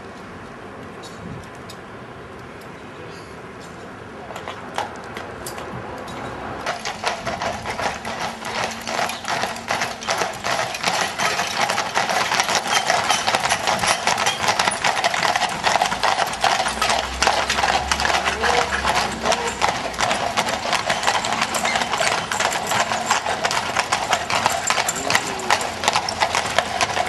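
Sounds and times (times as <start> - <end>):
horse hooves clip-clopping on road: 4.3 - 27.0.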